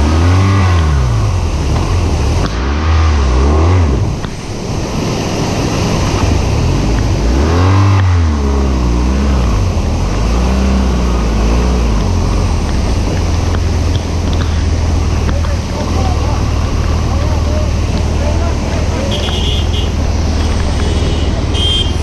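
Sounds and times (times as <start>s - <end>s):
motorcycle engine revving: 0.0s - 22.0s
steady rushing noise: 0.0s - 22.0s.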